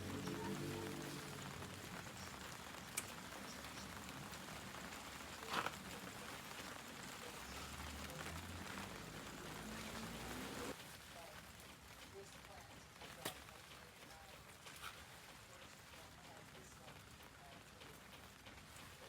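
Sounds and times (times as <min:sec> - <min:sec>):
light rain pattering: 0:00.0 - 0:19.0.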